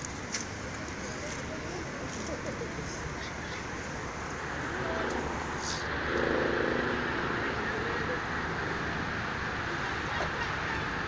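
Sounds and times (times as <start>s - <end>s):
faint voices: 0.0s - 11.0s
road traffic hum: 0.0s - 11.0s.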